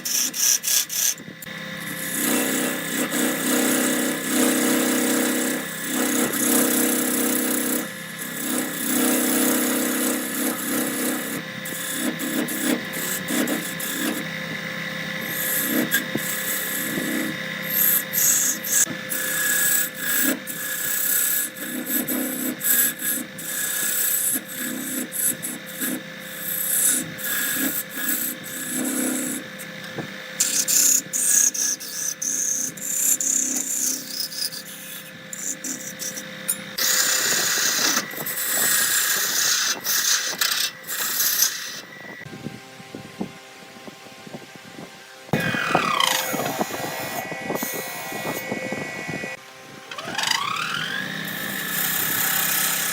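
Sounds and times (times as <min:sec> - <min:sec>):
tool rasping spinning wood: 0:00.0 - 0:42.3, 0:45.3 - 0:52.9
lathe motor hum: 0:00.0 - 0:52.9.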